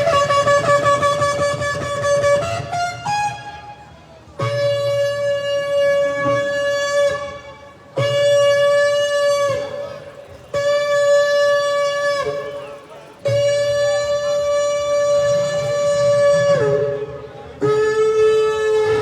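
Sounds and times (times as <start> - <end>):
ram's horn blasts: 0.0 - 3.8, 4.4 - 19.0.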